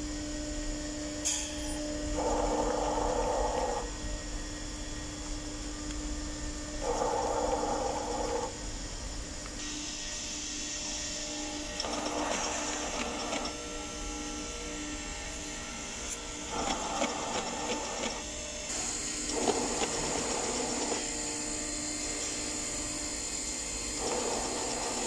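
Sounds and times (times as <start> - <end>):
feeder machine motor hum: 0.0 - 25.0.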